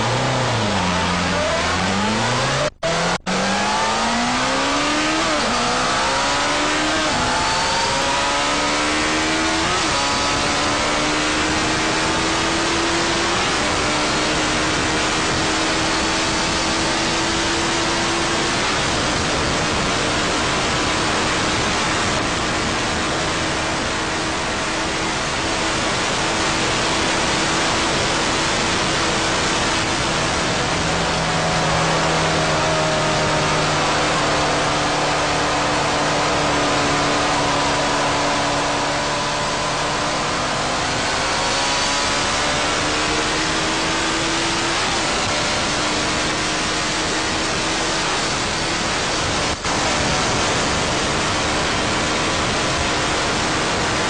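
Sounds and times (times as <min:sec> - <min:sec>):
loud wind rush: 0:00.0 - 0:54.0
motorcycle engine at full throttle: 0:00.0 - 0:54.0.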